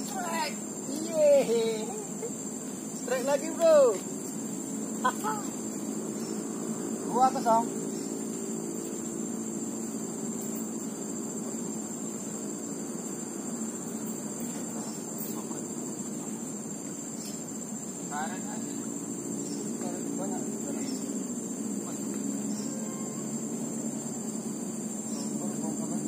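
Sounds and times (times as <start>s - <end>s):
crickets droning: 0.0s - 26.0s.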